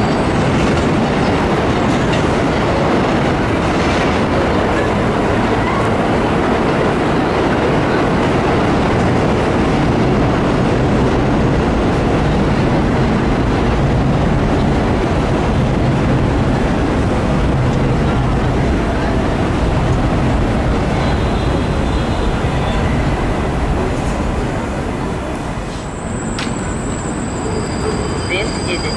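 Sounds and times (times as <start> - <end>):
subway train wheels rumbling: 0.0 - 28.9.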